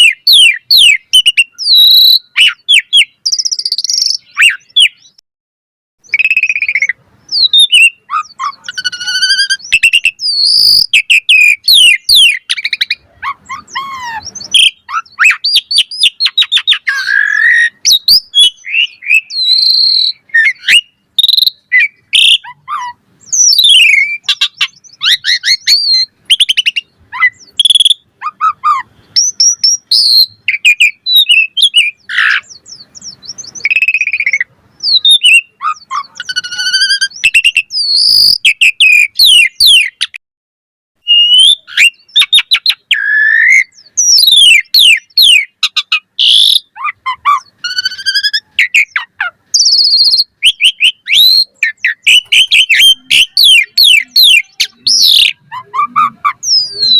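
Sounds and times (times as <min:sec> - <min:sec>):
starling singing: 0:00.0 - 0:05.2, 0:06.0 - 0:40.2, 0:41.0 - 0:56.9.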